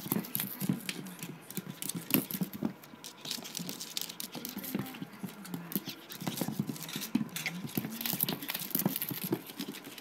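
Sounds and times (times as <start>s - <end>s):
puppy claws pattering on floor: 0.0s - 10.0s.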